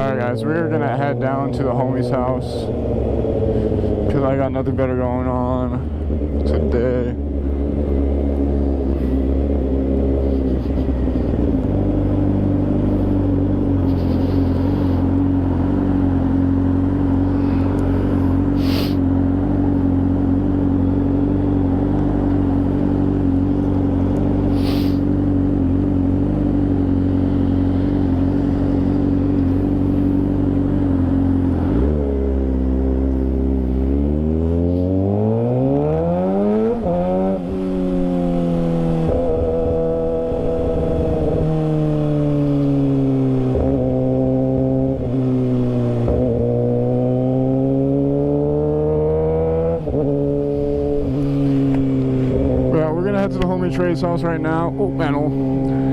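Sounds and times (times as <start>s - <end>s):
motorcycle engine running: 0.0s - 34.9s, 35.6s - 55.9s.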